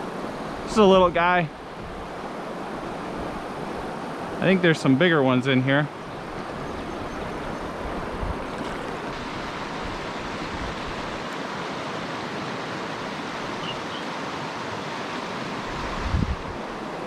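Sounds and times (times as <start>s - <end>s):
fast stream rushing: 0.0s - 17.0s.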